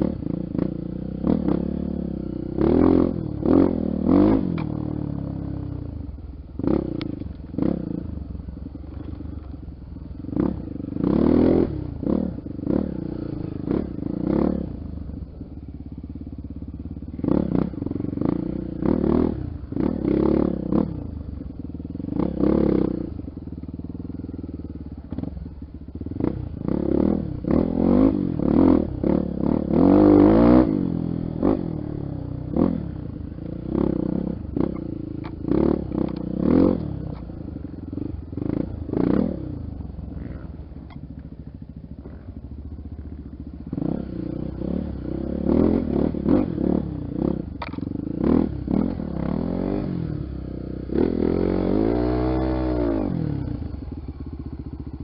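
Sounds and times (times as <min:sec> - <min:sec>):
off-road motorcycle engine revving: 0:00.0 - 0:55.0.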